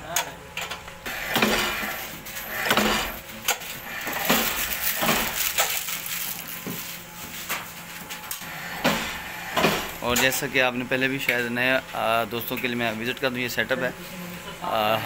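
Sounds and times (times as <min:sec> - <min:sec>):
workshop clatter: 0:00.0 - 0:13.4.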